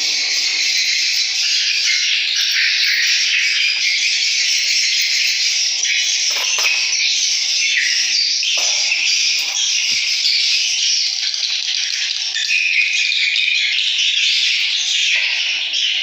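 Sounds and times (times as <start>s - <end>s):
recorded bird chirping from speakers: 0.0s - 16.0s.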